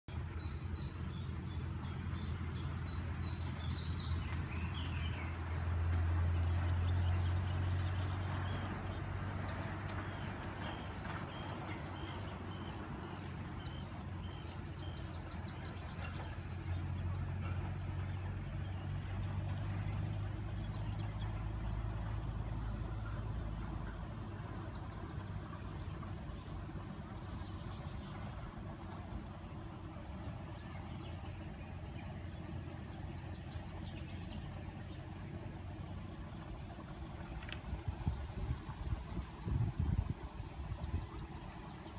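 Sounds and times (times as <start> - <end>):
low steady rumble: 0.1 - 41.9.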